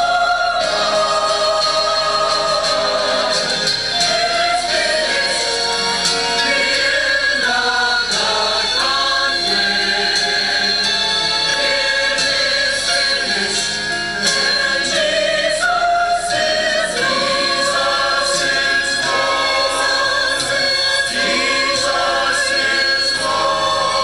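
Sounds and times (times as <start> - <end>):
church choir singing: 0.0 - 24.0.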